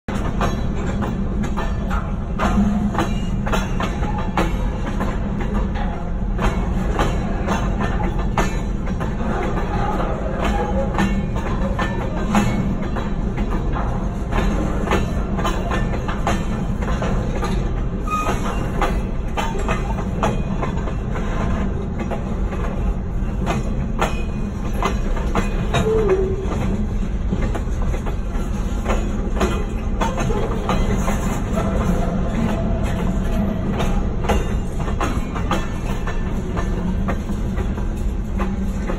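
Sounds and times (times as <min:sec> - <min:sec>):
steel wheels clacking over rail joints: 0:00.1 - 0:38.9.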